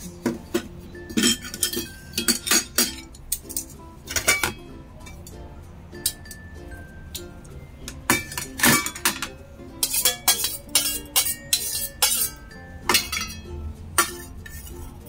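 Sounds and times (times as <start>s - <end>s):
dishes clinking and scraping: 0.0s - 15.0s.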